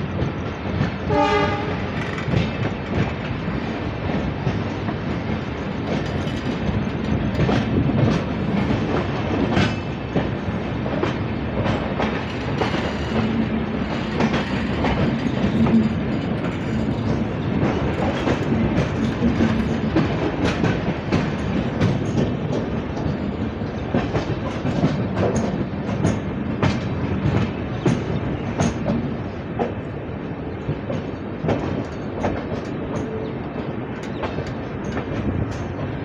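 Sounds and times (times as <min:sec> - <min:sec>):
train coaches rumbling on track: 0:00.0 - 0:36.0
wheel clacks over rail joints: 0:00.8 - 0:29.9.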